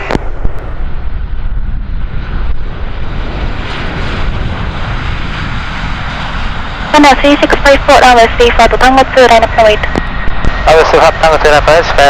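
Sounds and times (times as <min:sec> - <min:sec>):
airliner engines rumbling: 0:00.0 - 0:12.0.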